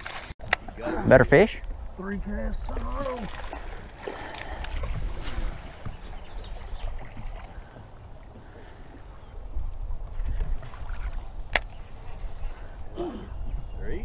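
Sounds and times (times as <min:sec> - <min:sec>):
water moving around boat: 0:00.0 - 0:13.6
wind on microphone: 0:02.6 - 0:14.0.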